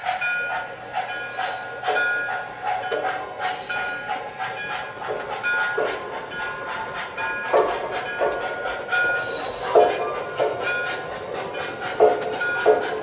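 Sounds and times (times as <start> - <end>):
model steam locomotive chuffs: 0.0 - 13.0
wheel and track clicks: 0.0 - 13.0.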